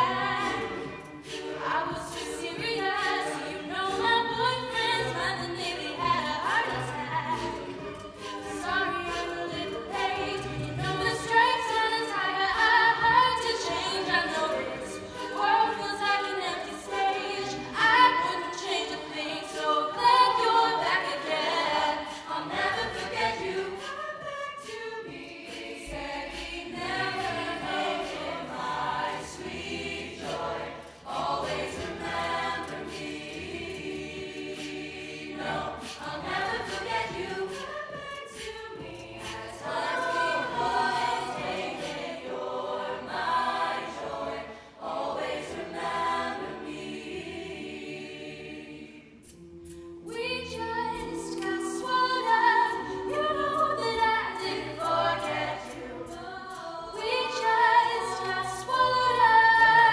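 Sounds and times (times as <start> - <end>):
a cappella backing harmonies: 0.0 - 59.9.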